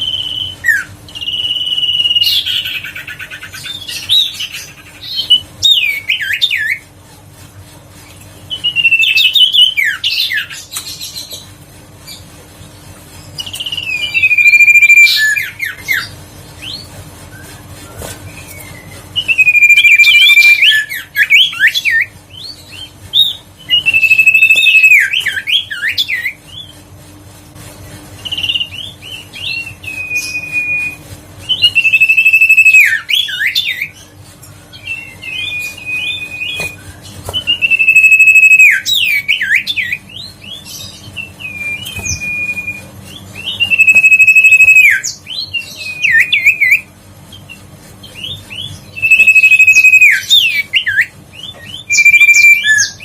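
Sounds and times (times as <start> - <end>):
bird whistling song: 0.0 - 6.8, 8.5 - 11.4, 13.4 - 26.8, 28.2 - 34.1, 34.7 - 53.0.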